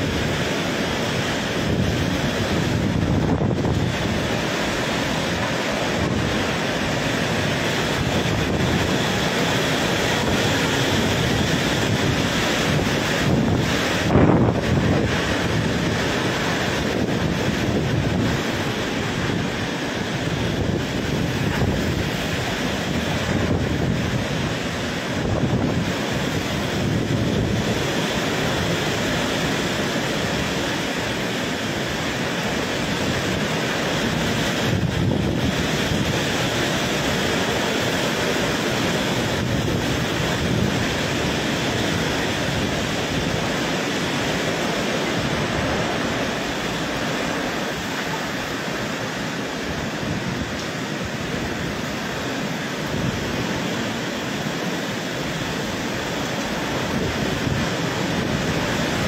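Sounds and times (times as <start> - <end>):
howling typhoon winds: 0.0 - 59.0
torrential rain: 0.0 - 59.0
wind buffeting microphone: 0.0 - 59.0.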